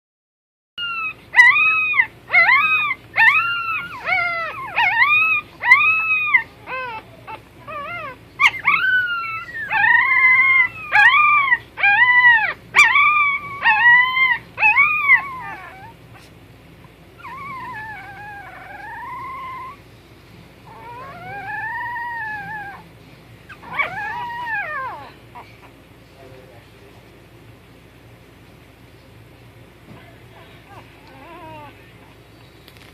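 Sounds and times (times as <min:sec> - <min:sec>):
puppies whining and yelping: 0:00.8 - 0:20.0, 0:20.6 - 0:25.9, 0:30.4 - 0:32.9.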